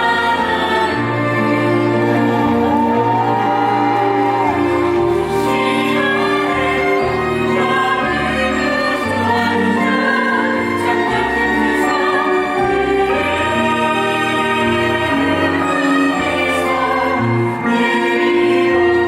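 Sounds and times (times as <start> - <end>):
cast singing: 0.0 - 19.0
orchestral backing: 0.0 - 19.0.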